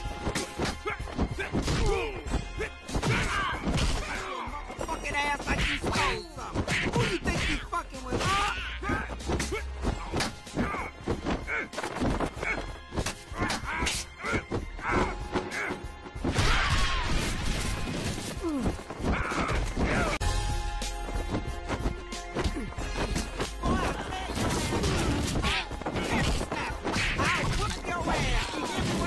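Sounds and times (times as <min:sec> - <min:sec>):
backing music: 0:00.0 - 0:29.0.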